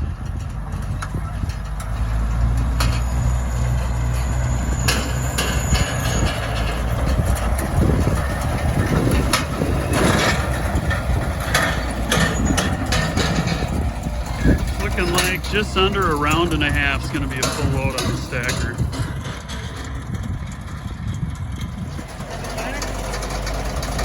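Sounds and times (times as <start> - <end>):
hay machinery clanking: 0.0 - 24.0
tractor engine running: 0.0 - 24.0.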